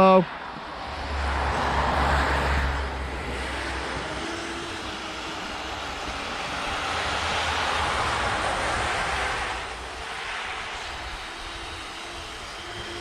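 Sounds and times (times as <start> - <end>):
rc vehicle motor whirring: 0.4 - 13.0.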